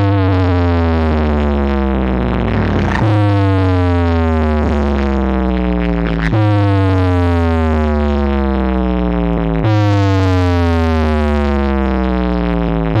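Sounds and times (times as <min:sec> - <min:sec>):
synthesized bass tone sliding: 0:00.0 - 0:13.0.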